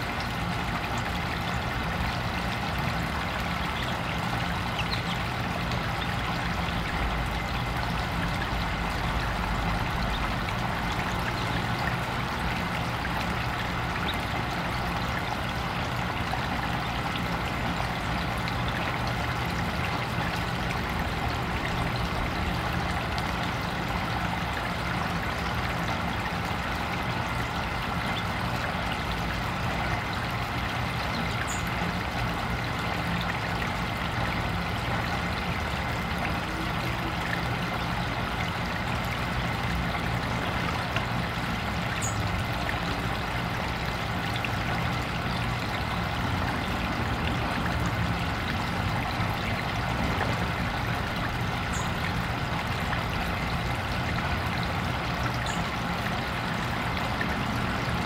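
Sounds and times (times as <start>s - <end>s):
low steady hum: 0.0s - 58.0s
water trickling and splashing: 0.0s - 58.0s.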